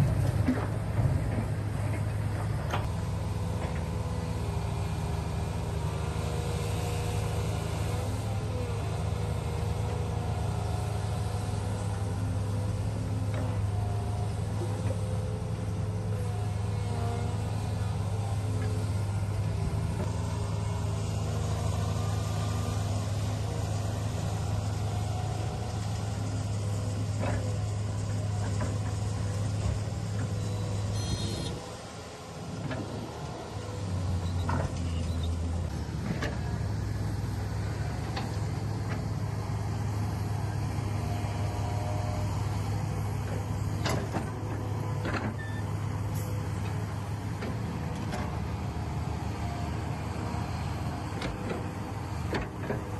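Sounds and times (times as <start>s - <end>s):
small motors humming: 0.0s - 52.9s.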